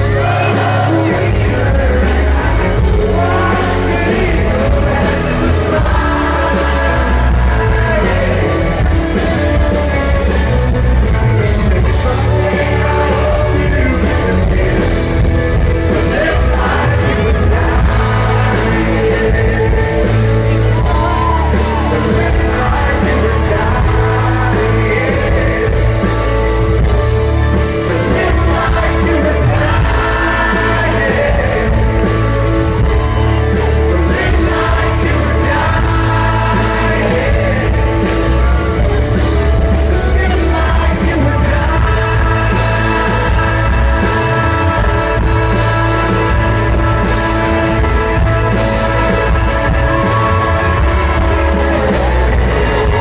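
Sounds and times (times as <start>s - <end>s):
loud amplified rock band: 0.0s - 53.0s
man singing into microphone: 0.0s - 53.0s.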